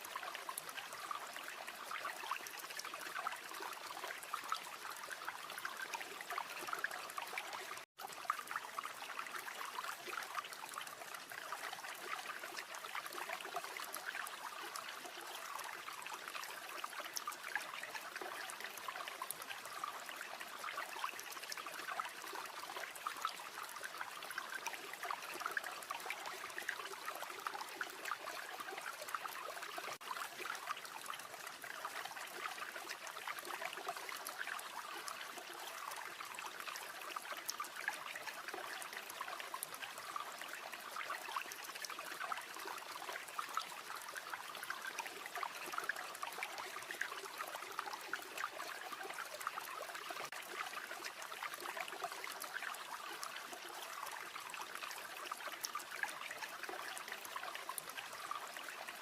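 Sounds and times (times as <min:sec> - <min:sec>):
river water running over stones: 0:00.0 - 0:59.0.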